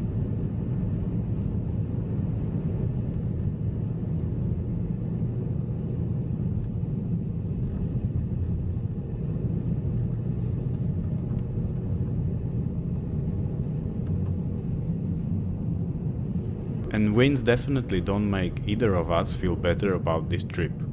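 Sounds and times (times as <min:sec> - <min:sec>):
car engine and tyre rumble: 0:00.0 - 0:20.9.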